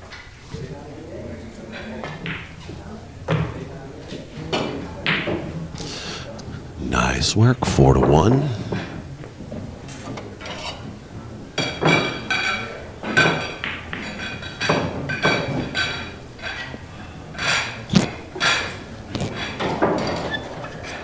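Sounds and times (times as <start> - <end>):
pool balls clacking: 1.5 - 5.8, 6.4 - 21.0.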